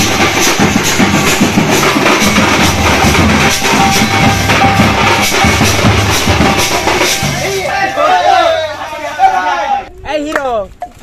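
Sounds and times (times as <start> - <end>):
street drums playing dance rhythm: 0.0 - 11.0.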